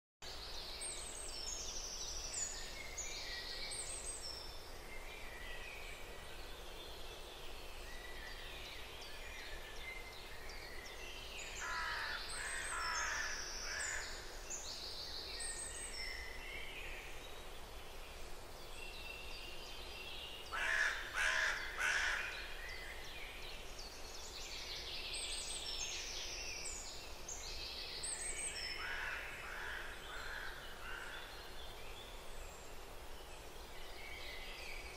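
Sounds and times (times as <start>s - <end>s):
small birds chirping and trilling: 0.3s - 34.9s.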